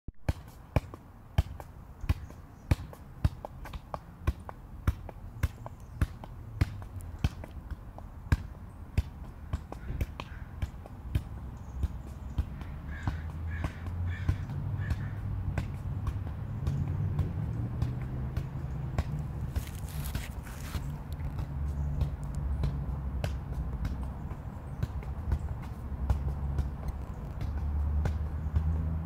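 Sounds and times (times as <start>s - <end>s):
ball thumping on foot: 0.2s - 29.0s.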